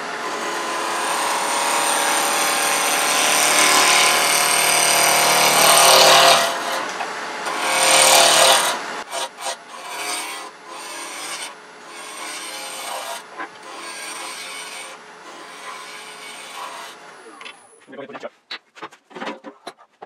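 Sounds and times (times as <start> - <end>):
gouge cutting wood on lathe: 0.0 - 17.7
lathe humming: 0.0 - 17.8.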